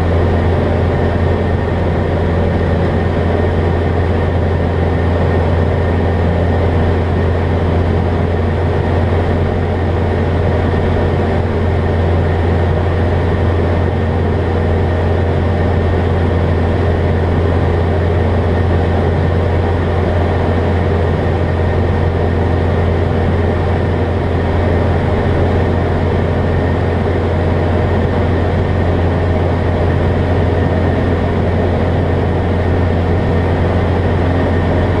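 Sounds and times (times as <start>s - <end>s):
light aircraft engine drone: 0.0s - 35.0s.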